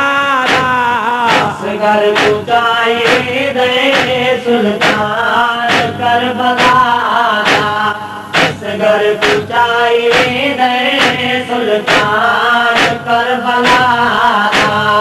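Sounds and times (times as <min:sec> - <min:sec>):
sharp steady beat: 0:00.0 - 0:15.0.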